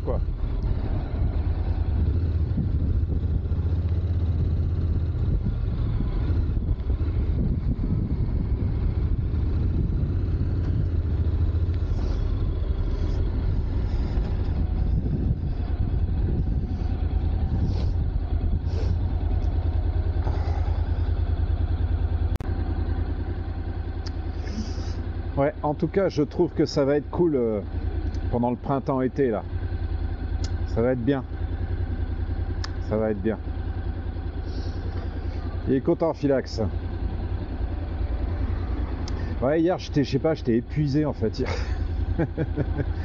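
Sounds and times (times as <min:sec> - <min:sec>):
motorcycle engine running: 0:00.0 - 0:43.0
wind and road noise: 0:00.0 - 0:43.0.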